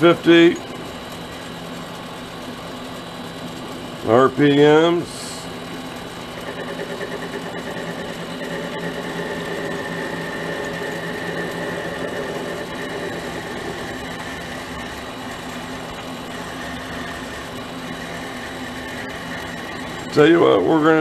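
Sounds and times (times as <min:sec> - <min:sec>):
lathe motor humming and whining: 0:00.0 - 0:21.0.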